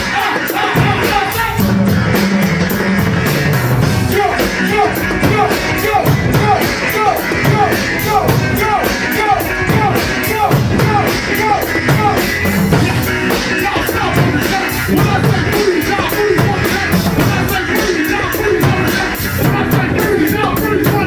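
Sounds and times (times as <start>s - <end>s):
driving drum beat: 0.0s - 21.0s
live band playing instrumental: 0.0s - 21.0s.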